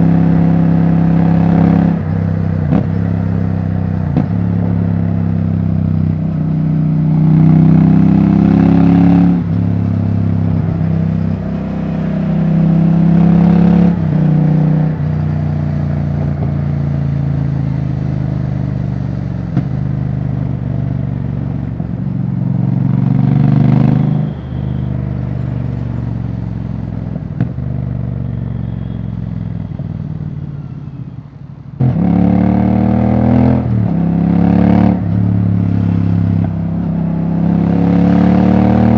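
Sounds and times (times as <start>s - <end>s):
motorcycle engine accelerating: 0.0s - 24.6s, 31.8s - 38.9s.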